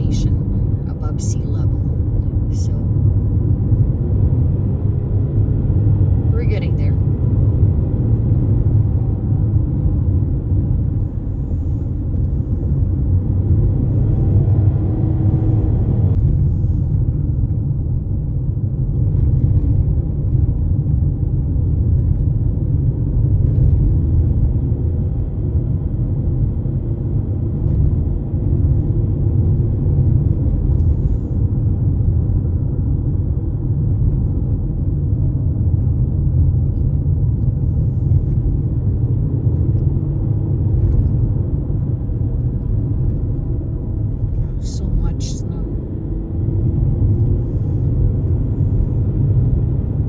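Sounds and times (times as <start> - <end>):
car driving rumble: 0.0 - 50.0.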